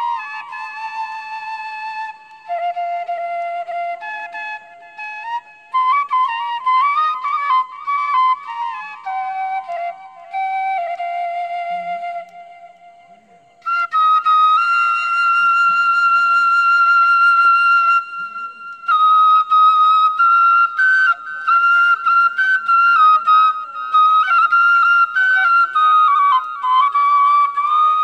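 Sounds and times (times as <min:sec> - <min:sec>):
solo flute: 0:00.0 - 0:28.0.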